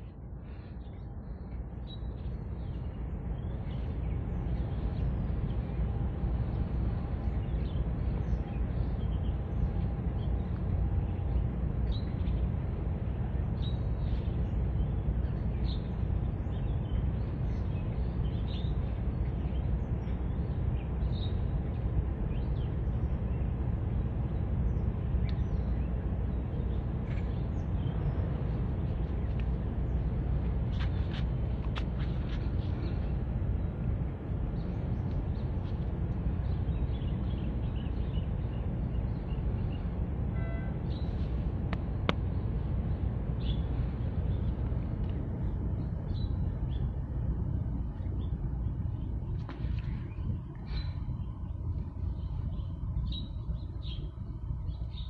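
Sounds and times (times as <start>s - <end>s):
small birds chirping: 0.0s - 55.0s
steady low rumble: 0.0s - 55.0s.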